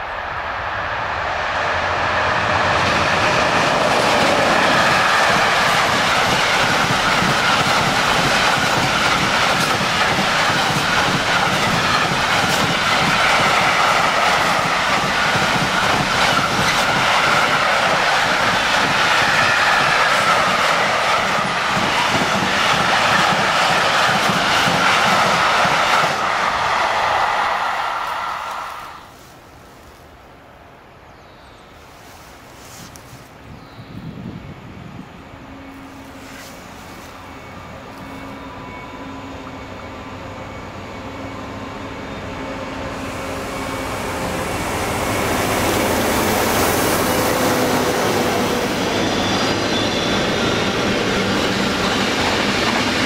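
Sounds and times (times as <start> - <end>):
train wheels rolling on rails: 0.0 - 30.2, 31.7 - 53.0.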